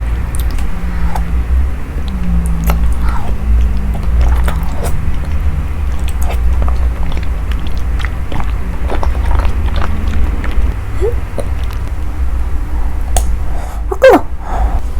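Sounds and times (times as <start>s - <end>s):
person chewing food: 0.0s - 13.4s
low hum: 0.0s - 14.9s.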